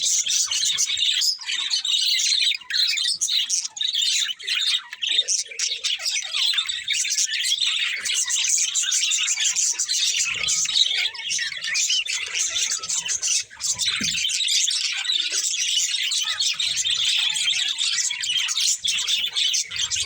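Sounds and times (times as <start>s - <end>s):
budgerigars chirping and warbling: 0.0s - 20.0s.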